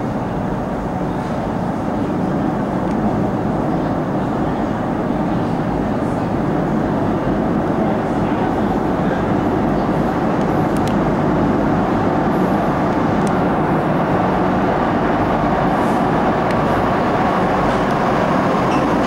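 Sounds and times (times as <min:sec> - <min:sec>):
train wheels on rails in tunnel: 0:00.0 - 0:19.0.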